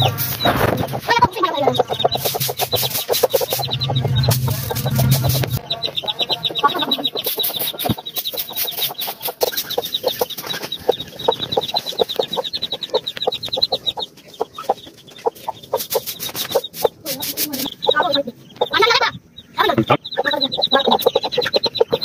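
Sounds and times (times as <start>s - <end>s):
chick cheeping: 0.0s - 22.0s
hen clucking: 0.0s - 22.0s.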